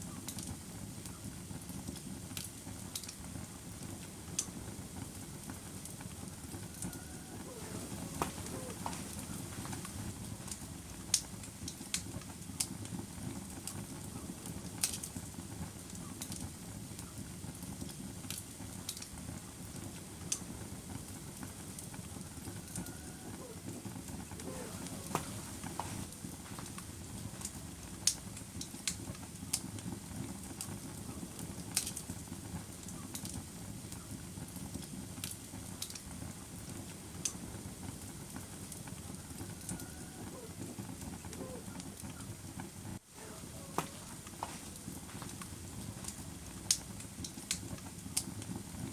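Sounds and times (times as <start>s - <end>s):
fire popping: 0.0s - 48.9s
wood fire crackling: 0.0s - 48.9s.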